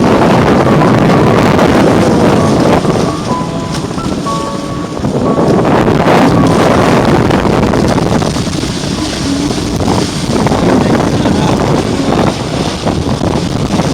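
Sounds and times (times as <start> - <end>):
water rushing past hulls: 0.0 - 13.9
wind noise on microphone: 0.0 - 13.9.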